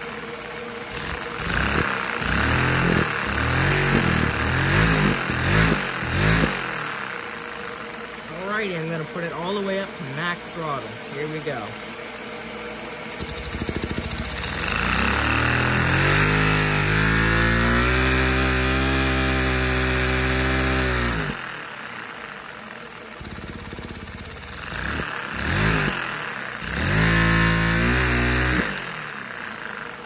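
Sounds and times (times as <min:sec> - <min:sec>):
vacuum-driven engine humming: 0:00.0 - 0:30.0.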